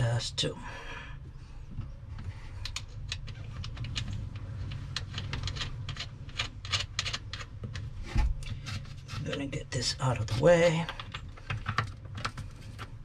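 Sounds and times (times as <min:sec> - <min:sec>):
steady low hum: 0:00.0 - 0:13.0
battery cables clicking and rattling: 0:01.8 - 0:09.6, 0:10.2 - 0:13.0.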